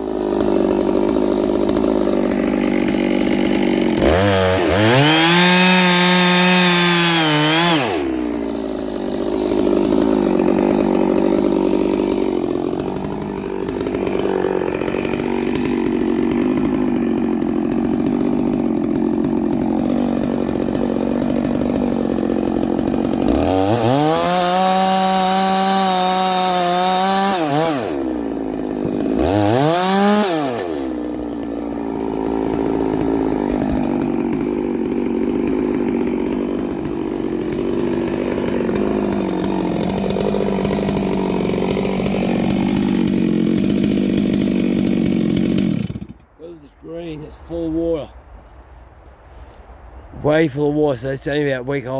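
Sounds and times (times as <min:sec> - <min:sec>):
chainsaw cutting wood: 0:00.0 - 0:48.7.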